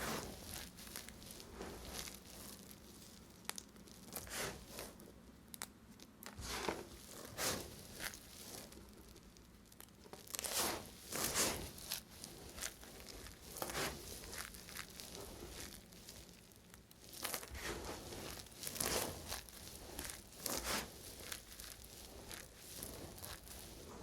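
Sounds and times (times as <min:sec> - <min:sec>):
knife cutting dry bar soap: 0:00.0 - 0:05.0, 0:06.2 - 0:09.0, 0:10.1 - 0:24.0.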